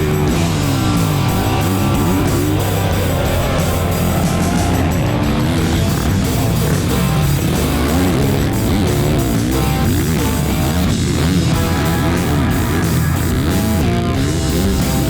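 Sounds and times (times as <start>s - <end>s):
heavy metal rock music: 0.0s - 15.0s.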